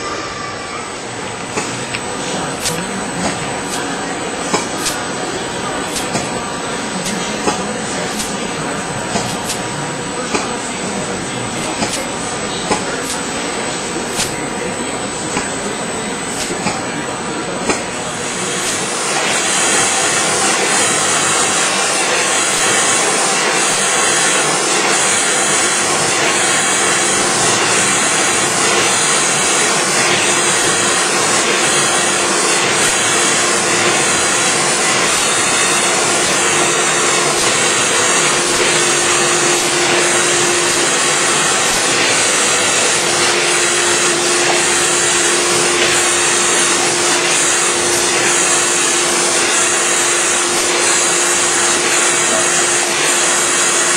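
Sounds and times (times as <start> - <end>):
printing machine running: 0.0 - 53.9.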